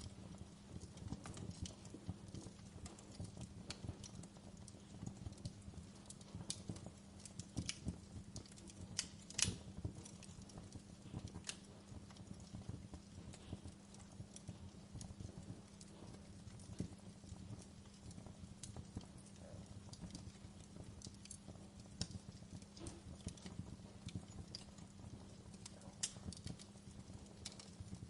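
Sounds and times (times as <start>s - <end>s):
steady low hum: 0.0s - 28.0s
wood fire crackling and popping: 0.0s - 28.0s.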